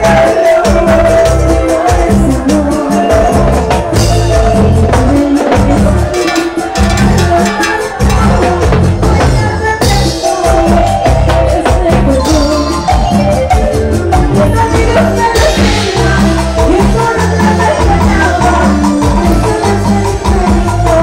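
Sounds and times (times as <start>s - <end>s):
driving bass line: 0.0s - 21.0s
drum and percussion beat: 0.0s - 21.0s
live latin dance band: 0.0s - 21.0s.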